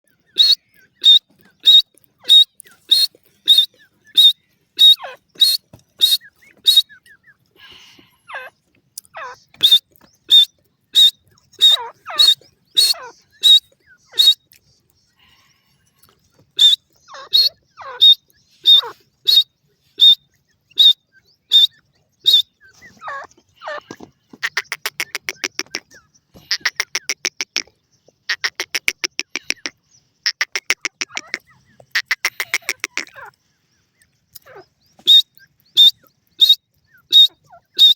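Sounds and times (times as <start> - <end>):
francolin calling: 0.1 - 37.9.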